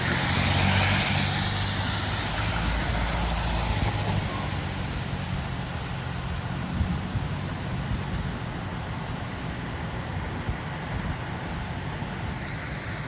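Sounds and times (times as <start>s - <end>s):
diesel engines driving past: 0.0s - 13.0s.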